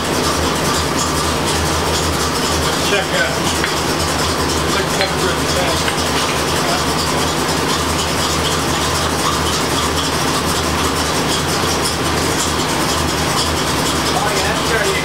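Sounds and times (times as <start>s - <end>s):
air conditioning running: 0.0s - 15.0s
car engine idling: 0.0s - 15.0s.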